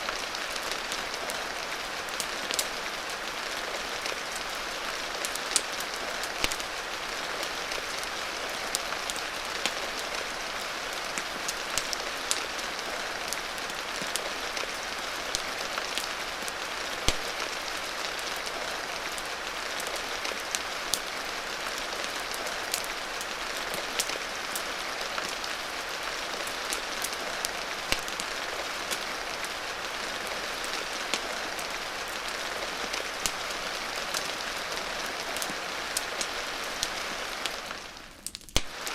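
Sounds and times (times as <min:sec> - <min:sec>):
rain falling: 0:00.0 - 0:38.9
wood fire crackling: 0:00.1 - 0:38.9.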